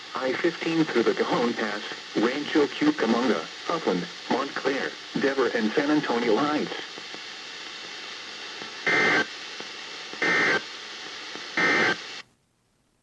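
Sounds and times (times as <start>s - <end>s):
radio hiss: 0.0s - 12.3s.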